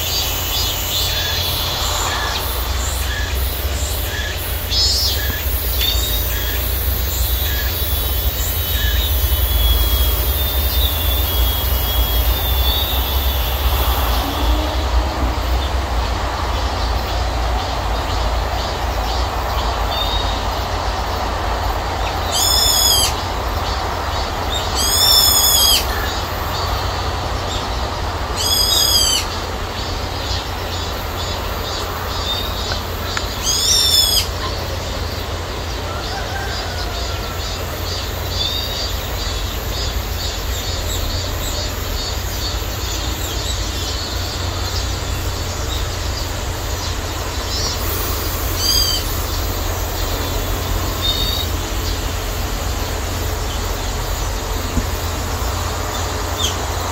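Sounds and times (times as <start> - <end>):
cicadas singing: 0.0 - 56.9.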